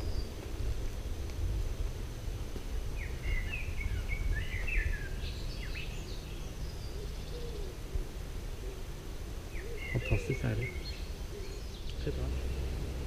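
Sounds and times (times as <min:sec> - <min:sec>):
songbird singing: 0:00.0 - 0:13.0
steady low rumble: 0:00.0 - 0:13.0.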